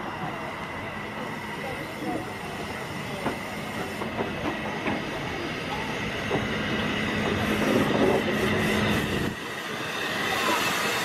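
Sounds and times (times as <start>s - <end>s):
steam locomotive moving: 0.0s - 11.0s.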